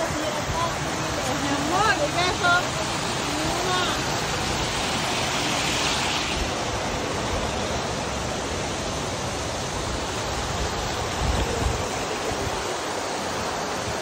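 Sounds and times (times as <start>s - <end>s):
water rushing and splashing: 0.0s - 14.0s.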